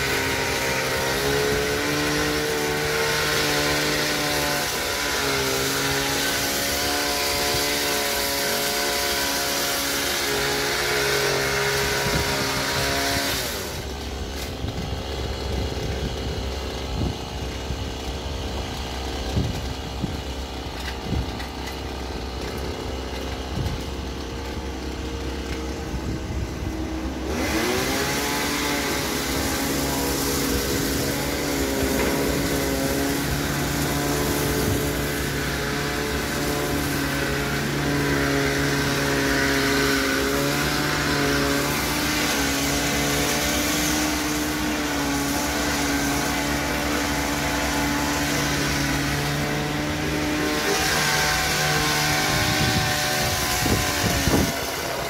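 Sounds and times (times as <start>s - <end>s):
hedge trimmer engine running: 0.0s - 55.0s.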